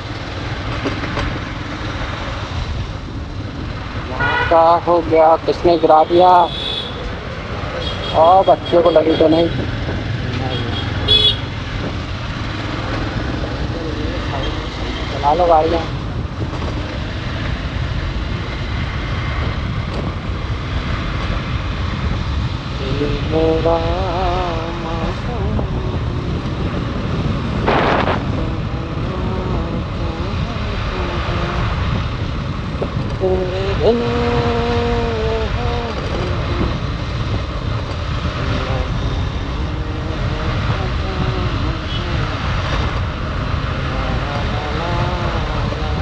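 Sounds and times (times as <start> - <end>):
motorcycle engine drone: 0.0 - 46.0
wind rushing over microphone: 0.0 - 46.0.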